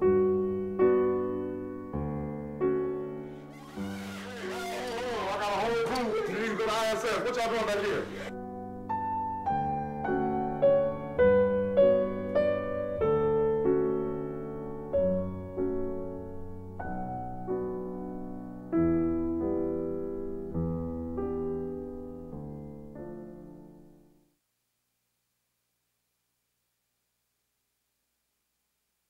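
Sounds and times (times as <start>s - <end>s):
piano music: 0.0s - 23.9s.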